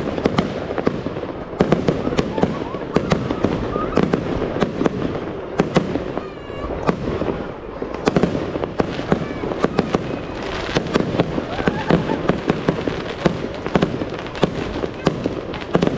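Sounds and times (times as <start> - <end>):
fireworks crackle: 0.0 - 15.9.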